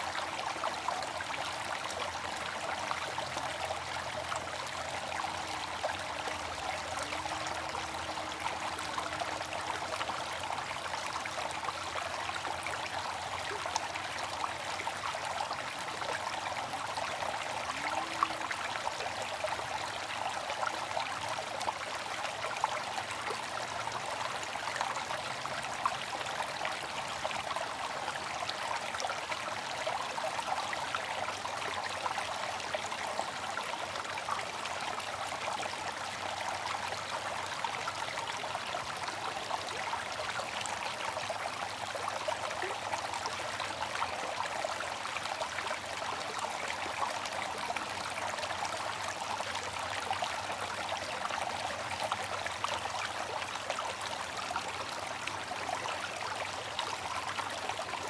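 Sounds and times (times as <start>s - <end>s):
water fountain trickling: 0.0s - 58.0s.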